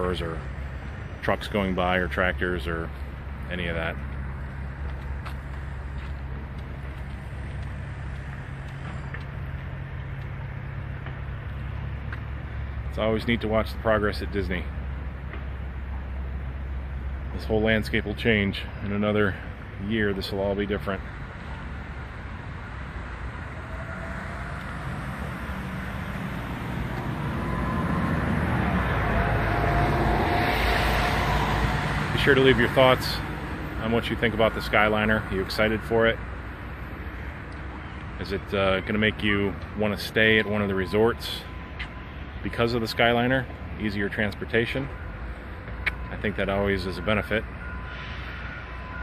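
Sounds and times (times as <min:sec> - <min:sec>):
motor vehicle approaching: 0:00.0 - 0:19.8, 0:20.5 - 0:49.0
engine rumble: 0:00.0 - 0:49.0
outdoor background noise: 0:00.0 - 0:49.0.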